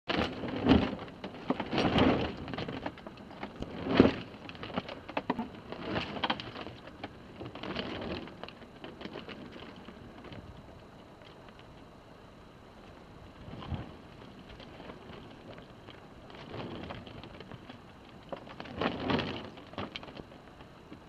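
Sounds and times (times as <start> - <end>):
water sloshing against hull: 0.1 - 21.0.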